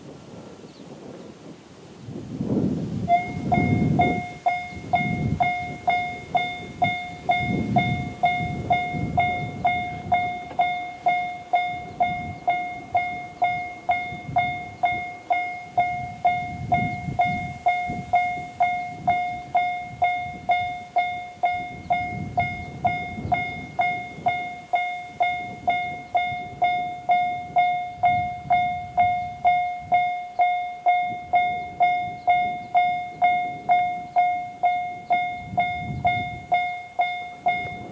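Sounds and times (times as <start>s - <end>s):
level-crossing alarm ringing: 3.1s - 37.9s.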